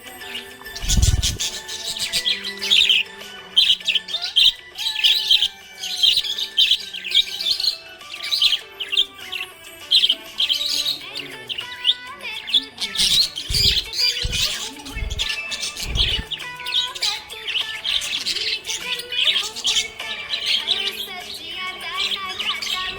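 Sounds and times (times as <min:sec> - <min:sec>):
budgerigars chirping and warbling: 0:00.0 - 0:22.9
music with low held notes: 0:00.0 - 0:22.9.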